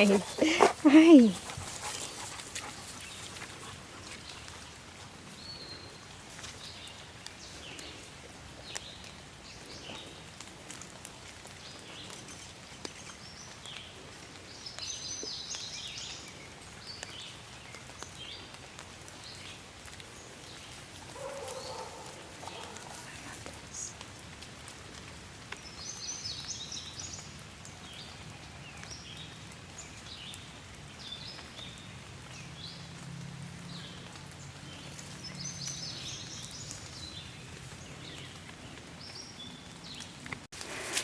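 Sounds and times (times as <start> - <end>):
small birds chirping: 0.0 - 10.9, 11.5 - 24.0, 25.6 - 32.9, 33.7 - 40.5.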